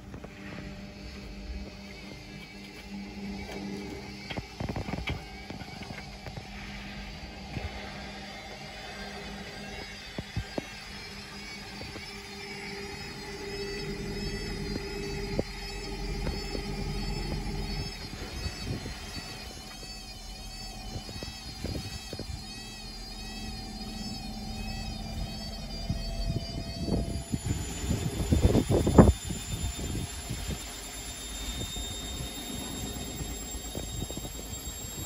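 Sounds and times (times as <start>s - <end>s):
washing machine running: 0.0s - 35.0s.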